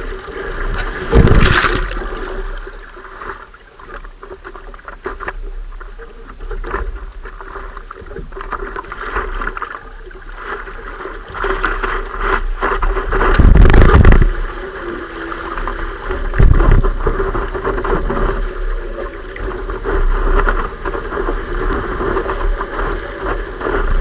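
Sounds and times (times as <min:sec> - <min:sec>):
water splashing against surfboard: 0:00.0 - 0:24.0.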